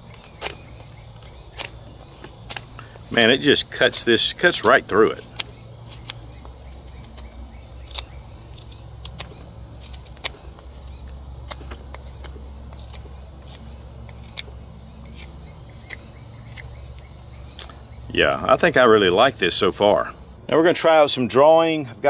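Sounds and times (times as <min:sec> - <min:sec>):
knife shaving wood clicks: 0:00.0 - 0:17.8
steady low hum: 0:00.0 - 0:22.0.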